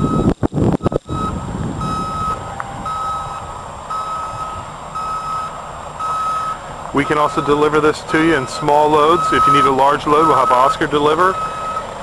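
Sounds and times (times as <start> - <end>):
backup alarm beeping: 0.0 - 11.9
truck engine rumble: 0.0 - 12.0.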